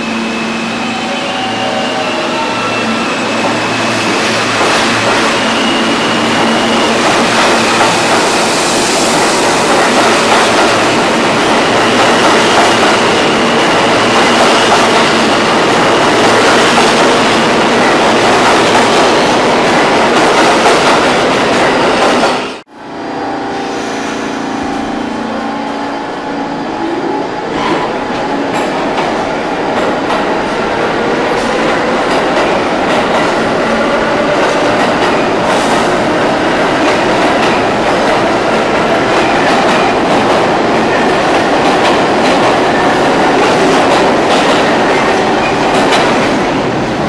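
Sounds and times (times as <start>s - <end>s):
subway train running quietly: 0.0s - 47.0s
subway train wheels on track: 0.0s - 47.0s.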